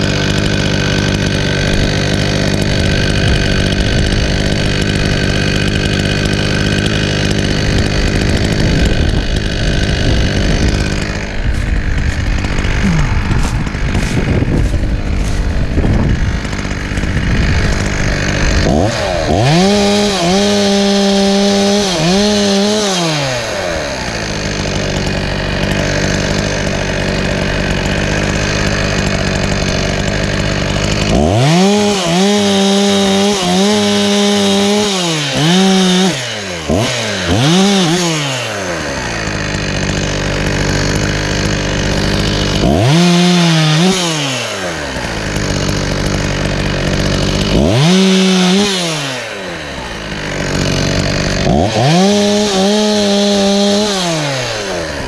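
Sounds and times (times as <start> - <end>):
chainsaw revving and idling: 0.0 - 55.0.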